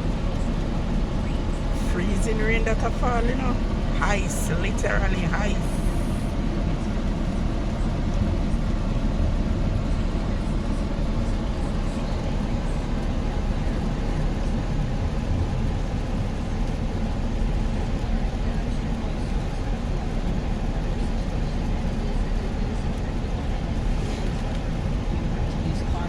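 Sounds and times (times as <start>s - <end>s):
car engine running: 0.0s - 26.0s
road noise inside car: 0.0s - 26.0s.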